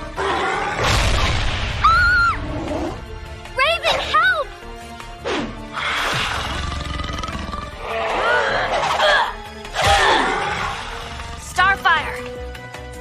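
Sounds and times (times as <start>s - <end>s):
action music: 0.0s - 13.0s.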